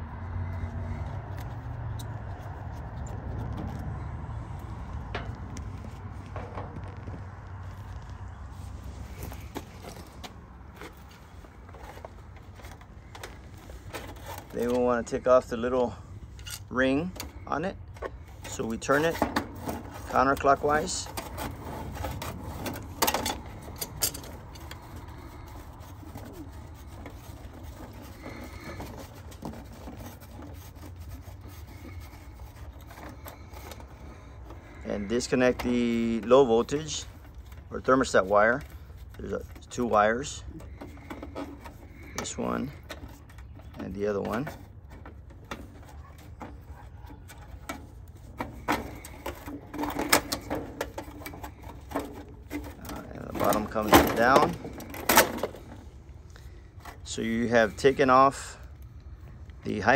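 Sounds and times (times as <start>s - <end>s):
handling of metal fitting: 9.1s - 58.7s.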